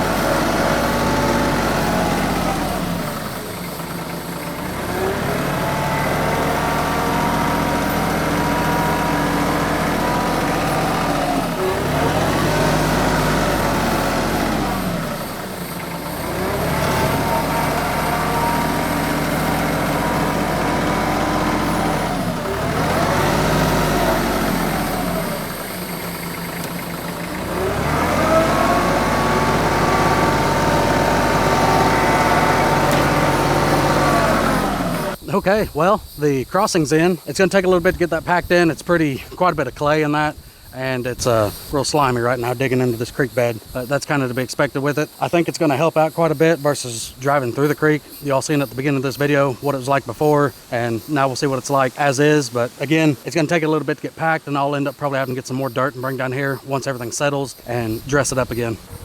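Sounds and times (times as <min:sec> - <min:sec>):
tractor diesel engine labouring: 0:00.0 - 0:59.0.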